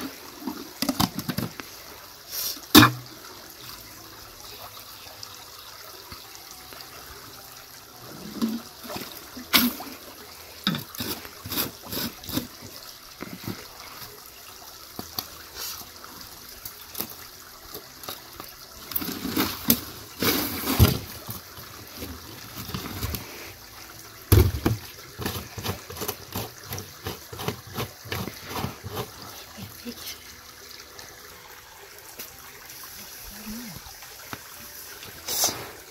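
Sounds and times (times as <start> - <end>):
water trickling into plastic cans: 0.0 - 35.9.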